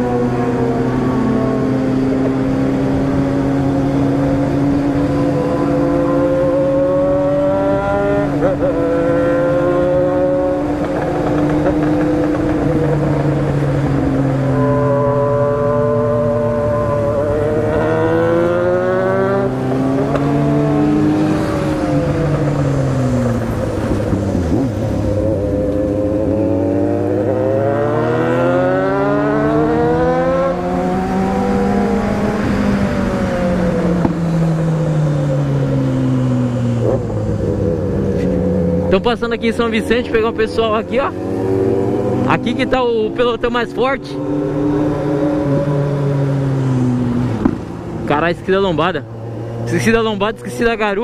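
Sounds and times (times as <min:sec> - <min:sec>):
gear change: 0:00.0 - 0:51.0
motorcycle engine accelerating: 0:00.0 - 0:51.0.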